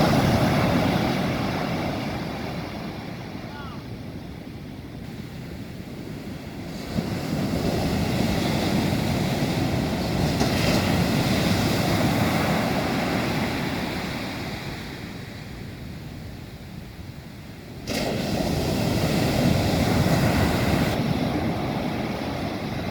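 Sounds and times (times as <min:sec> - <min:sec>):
ocean wave breaking on beach: 0:00.0 - 0:16.0, 0:17.5 - 0:22.9.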